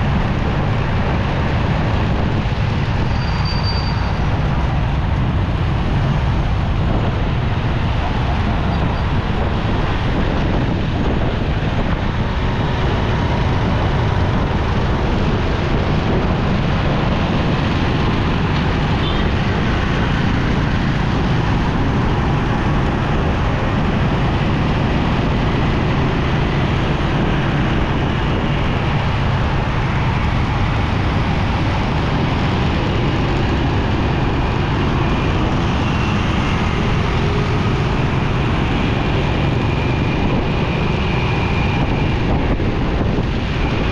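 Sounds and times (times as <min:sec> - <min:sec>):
road traffic: 0:00.0 - 0:43.9.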